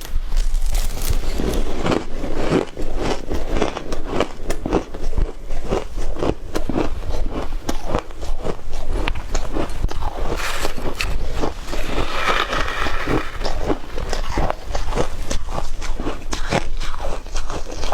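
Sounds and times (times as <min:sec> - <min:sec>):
person crunching ice: 0:00.1 - 0:17.9.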